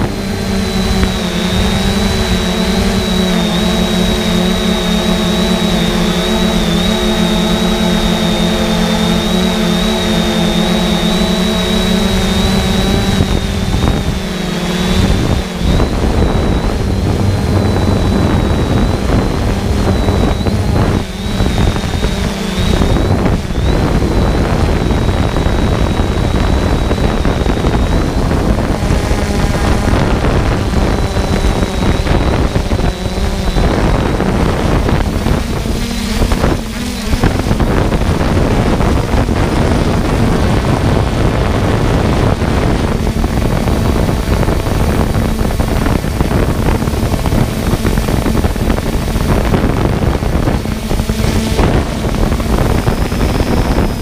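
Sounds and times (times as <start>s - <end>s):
drone propellers whirring: 0.0s - 54.0s
wind noise gusts: 0.0s - 54.0s.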